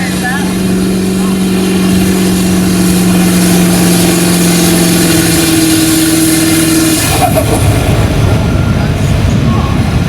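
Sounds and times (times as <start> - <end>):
pickup truck engine at high revs: 0.0 - 10.0.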